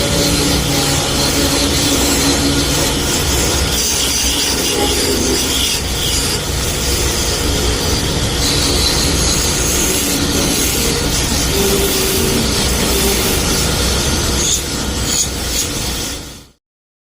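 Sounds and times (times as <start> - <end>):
lathe motor hum: 0.0 - 16.5
tool scraping spinning wood: 0.0 - 16.5.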